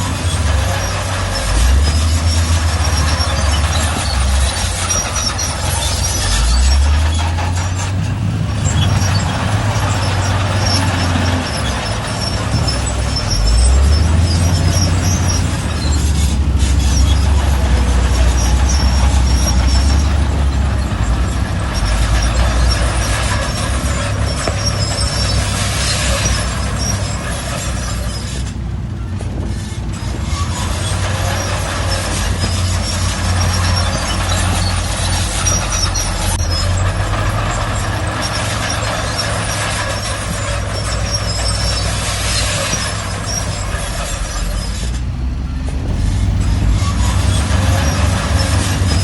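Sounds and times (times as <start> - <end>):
diesel earthmoving machine engine: 0.0 - 49.0
high metallic squeaks: 0.0 - 49.0
steady machinery clatter: 0.0 - 49.0.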